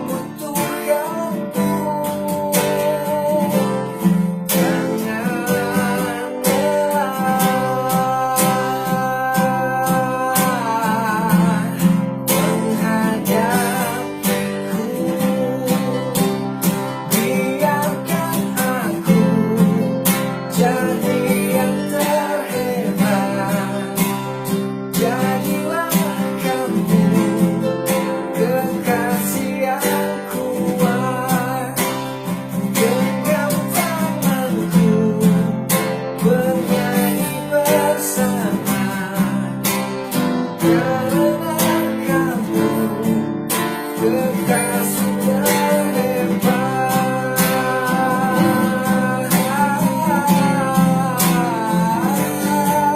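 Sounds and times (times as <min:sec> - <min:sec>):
acoustic guitar strumming: 0:00.0 - 0:52.9.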